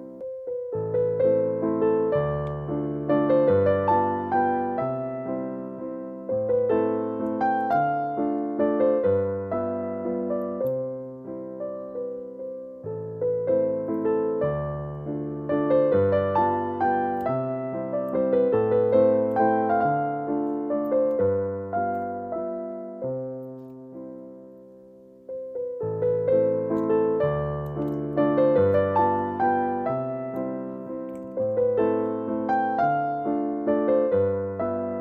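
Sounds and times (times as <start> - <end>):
gentle piano music: 0.0 - 35.0.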